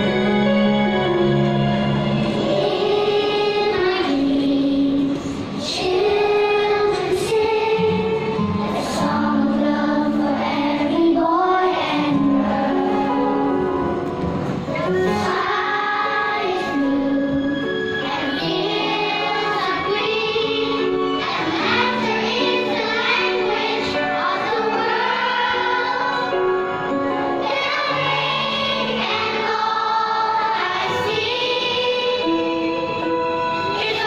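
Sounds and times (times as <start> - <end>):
instrumental accompaniment: 0.0 - 34.0
children singing in unison: 2.1 - 13.6, 14.7 - 34.0.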